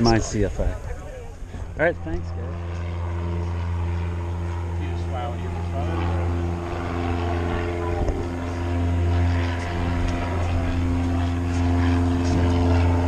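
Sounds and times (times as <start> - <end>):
aircraft engine idling: 0.0 - 13.0.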